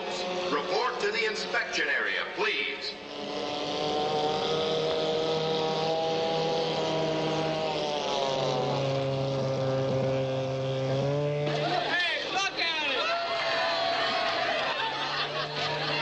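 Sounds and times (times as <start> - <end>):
lower engine note: 0.0 - 16.0
outboard engine whine: 0.0 - 16.0.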